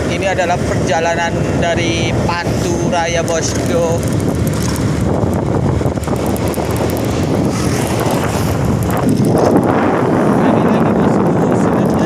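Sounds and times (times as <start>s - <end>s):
truck engine and road noise: 0.0s - 12.0s
wind buffeting microphone: 0.0s - 12.0s.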